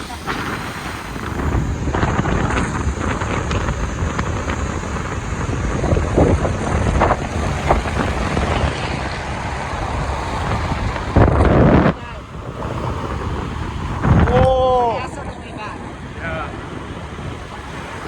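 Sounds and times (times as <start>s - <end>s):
road and vehicle noise: 0.0s - 18.0s
wind buffeting microphone: 0.0s - 18.0s.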